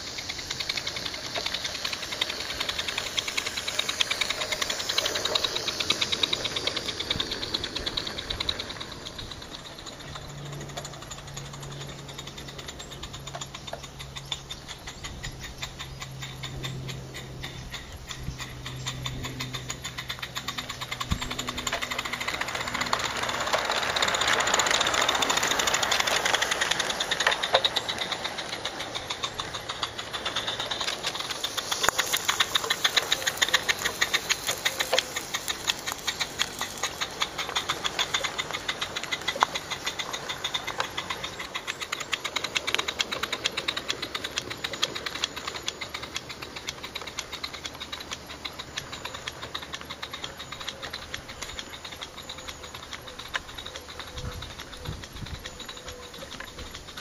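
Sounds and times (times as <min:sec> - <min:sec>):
small steam locomotive chuffing: 0:00.0 - 0:57.0.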